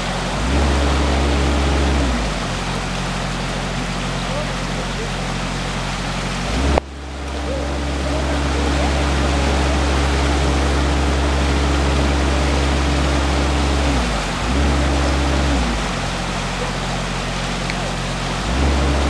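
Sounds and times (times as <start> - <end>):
crane engine revving: 0.0 - 19.0
river rushing: 0.0 - 19.0.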